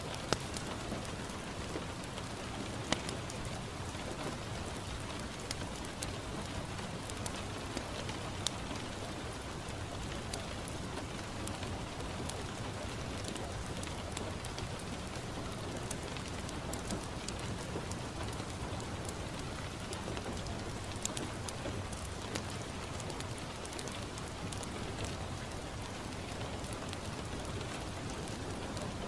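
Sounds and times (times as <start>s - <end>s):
rain on a window: 0.0s - 29.0s
wood fire crackling: 0.0s - 29.0s.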